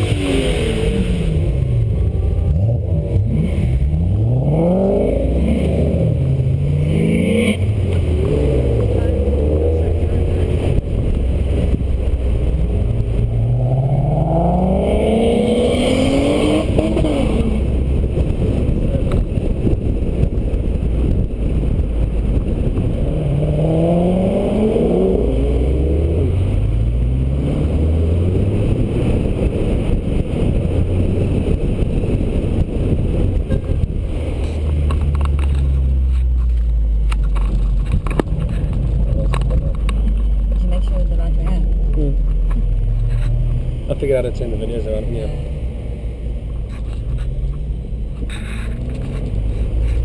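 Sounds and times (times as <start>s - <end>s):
car engine accelerating: 0.0s - 50.0s
engine and road rumble: 0.0s - 50.0s.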